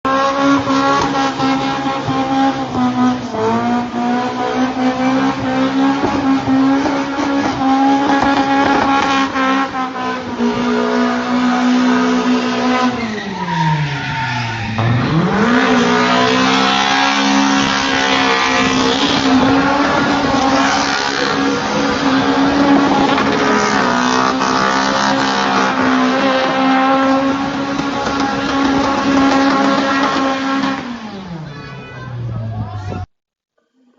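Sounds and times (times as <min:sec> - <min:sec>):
car engine at high revs: 0:00.0 - 0:31.5.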